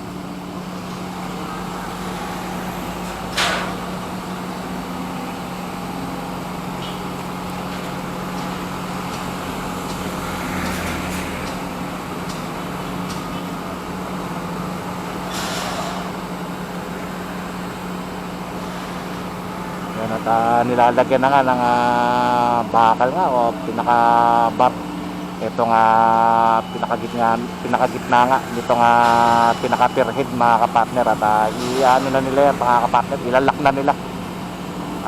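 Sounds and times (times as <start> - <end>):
construction machinery engine drone: 0.0 - 35.0.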